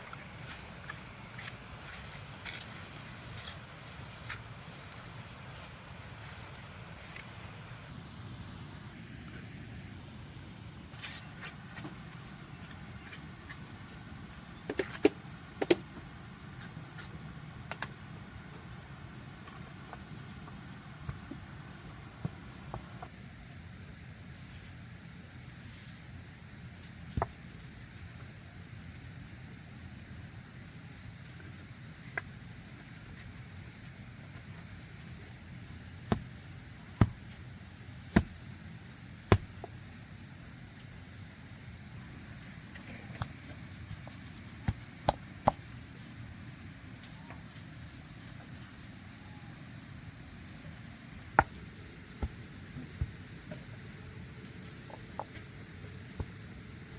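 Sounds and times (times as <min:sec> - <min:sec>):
faint high whine: 0:00.0 - 0:15.0, 0:16.0 - 0:56.9
steady low hum: 0:00.0 - 0:56.9.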